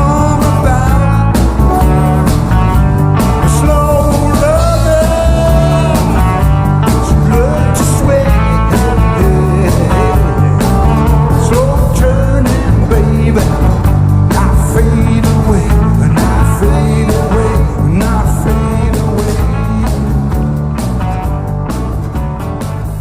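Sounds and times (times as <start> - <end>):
blues band playing live: 0.0 - 23.0.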